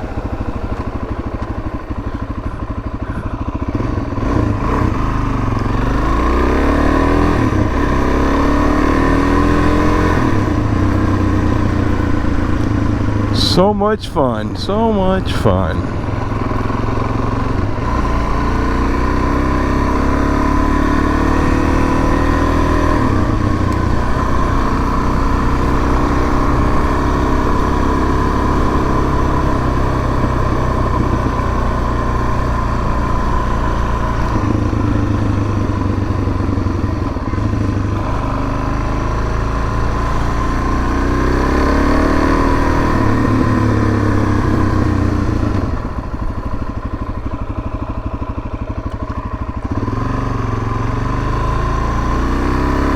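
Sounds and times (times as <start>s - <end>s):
motorcycle engine revving: 0.0s - 13.5s, 15.1s - 52.9s.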